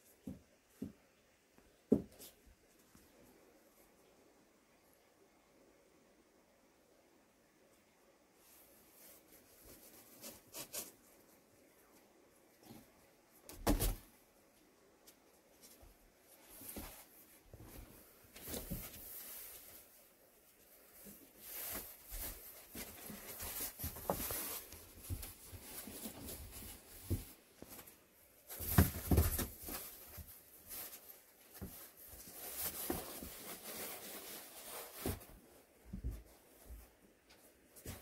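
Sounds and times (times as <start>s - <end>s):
kittens play-fighting on mat: 0.0s - 5.3s, 7.6s - 38.0s.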